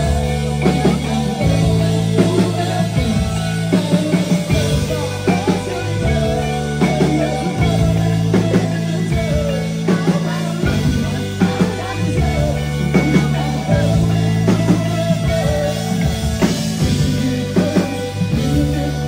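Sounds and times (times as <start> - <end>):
bass line of low notes: 0.0 - 19.0
rock band playing: 0.0 - 19.0.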